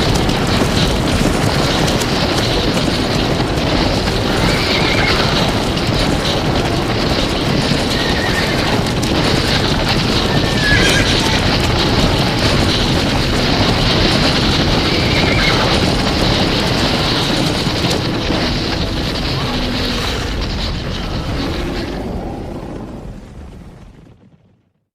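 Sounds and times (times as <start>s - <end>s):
galloping hooves rumble: 0.0s - 24.8s
horses whinnying: 3.3s - 23.3s.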